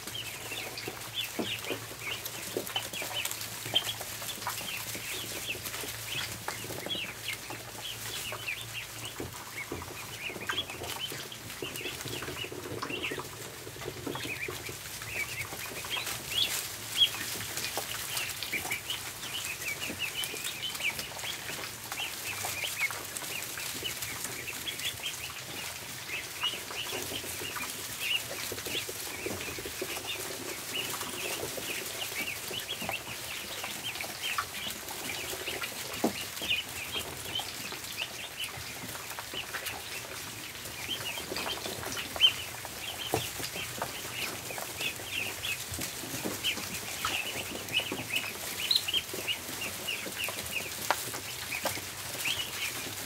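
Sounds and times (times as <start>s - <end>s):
ducklings peeping: 0.0s - 53.0s.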